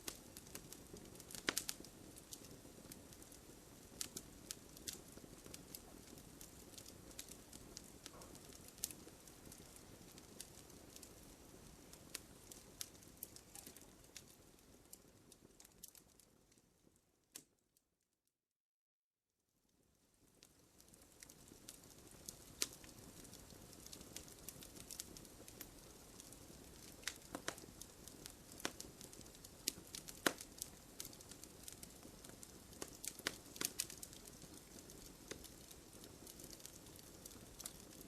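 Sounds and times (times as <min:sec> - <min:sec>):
fire burning hiss: 0:00.0 - 0:16.0, 0:20.3 - 0:38.0
bonfire pops and snaps: 0:00.0 - 0:16.6, 0:20.4 - 0:38.0.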